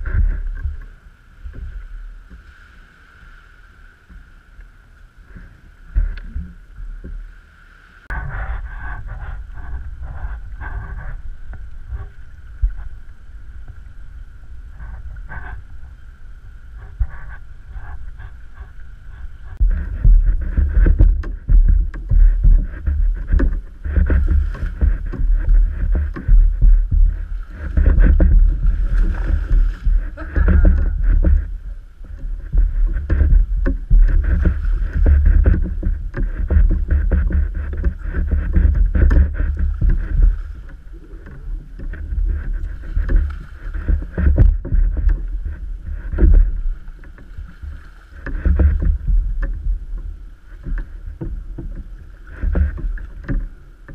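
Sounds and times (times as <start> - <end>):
wind buffeting microphone: 0.0 - 2.7, 8.0 - 53.9
water sloshing against kayak hull: 0.0 - 53.9.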